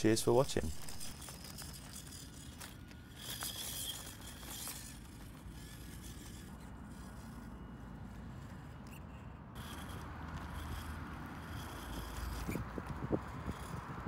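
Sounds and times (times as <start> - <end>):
stones clicking under tyres: 0.0 - 14.0.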